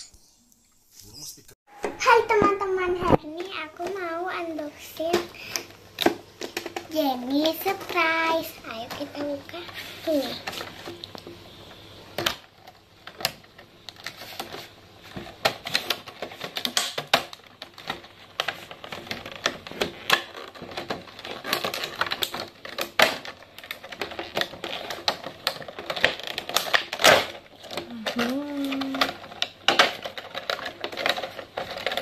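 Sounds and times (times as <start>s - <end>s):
plastic and cardboard crinkling clicks: 3.0s - 11.4s, 12.1s - 32.0s.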